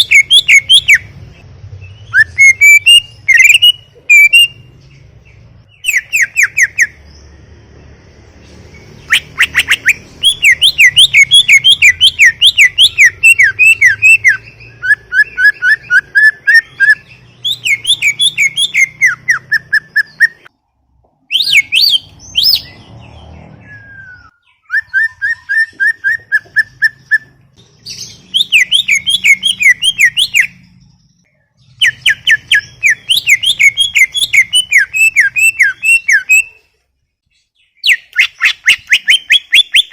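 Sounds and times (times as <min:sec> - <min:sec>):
bird singing whistled notes: 0:00.0 - 0:07.4, 0:08.4 - 0:20.5, 0:21.3 - 0:36.6, 0:37.3 - 0:39.9.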